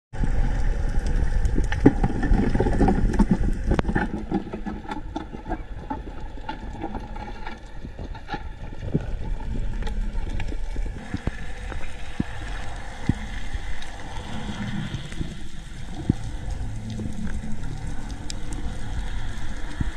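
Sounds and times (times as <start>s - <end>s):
low underwater rumbling wash: 0.1s - 19.9s
sharp underwater clicks and crackles: 0.2s - 19.9s.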